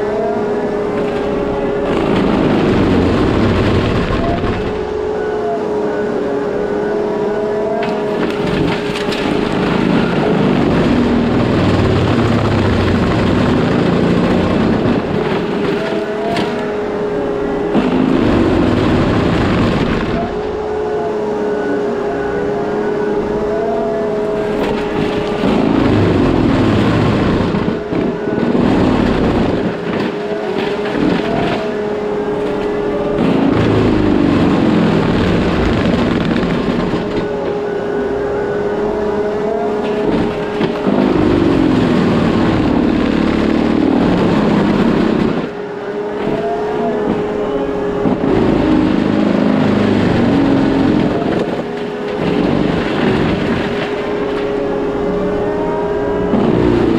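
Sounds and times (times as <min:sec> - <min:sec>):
mulching head grinding: 0:00.0 - 0:05.3, 0:07.7 - 0:21.0, 0:23.2 - 0:56.9
machine engine whining: 0:00.0 - 0:56.9.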